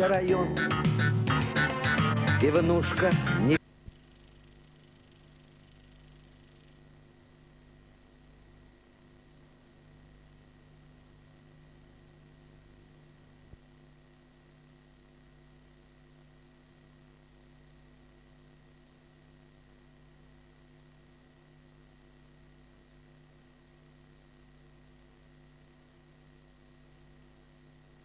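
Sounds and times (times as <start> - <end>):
faint electrical hum and hiss: 0.0 - 28.0.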